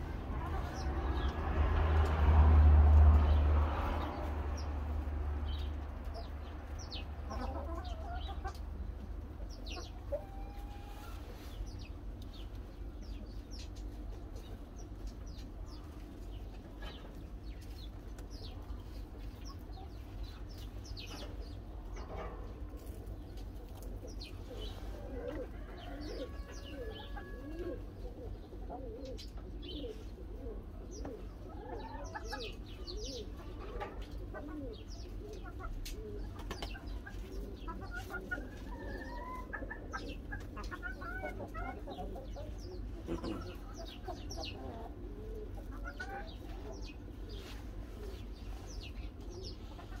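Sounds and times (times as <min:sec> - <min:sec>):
chickens clucking: 0:00.0 - 0:50.0
small birds chirping: 0:03.0 - 0:50.0.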